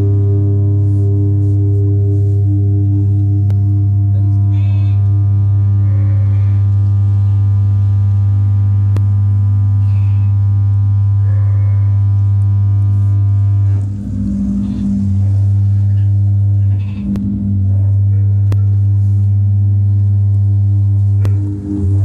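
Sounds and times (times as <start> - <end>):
low-pitched hum: 0.0 - 22.0.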